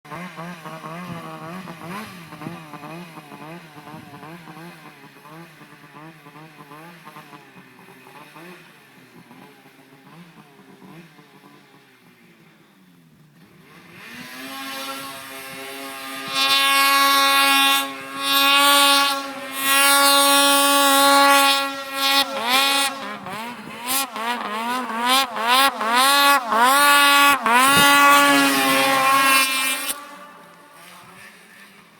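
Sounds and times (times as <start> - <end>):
snowmobile engine revving: 0.0 - 12.8, 13.4 - 31.9.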